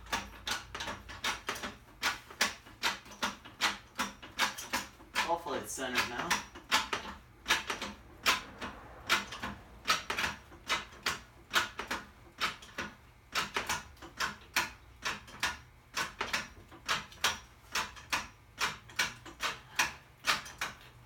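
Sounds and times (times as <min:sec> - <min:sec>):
floor jack pumping clicks: 0:00.0 - 0:21.0.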